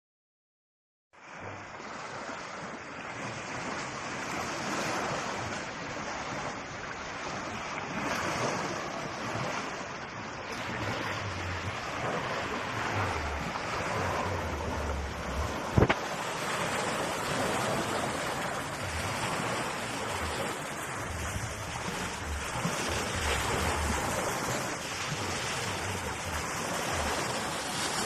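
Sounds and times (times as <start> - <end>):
wind buffeting microphone: 2.0 - 28.0
surf rushing: 2.8 - 28.0.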